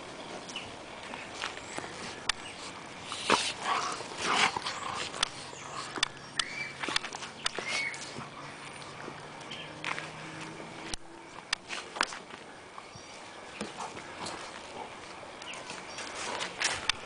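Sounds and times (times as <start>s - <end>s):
dogs scuffling: 0.2s - 17.0s.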